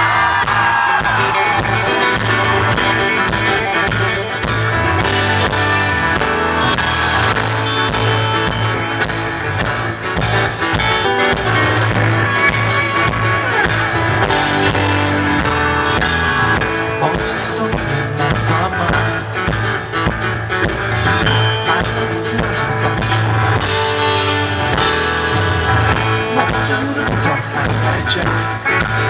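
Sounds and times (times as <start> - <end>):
bass line: 0.0 - 29.0
drum kit: 0.0 - 29.0
guitar: 0.0 - 29.0.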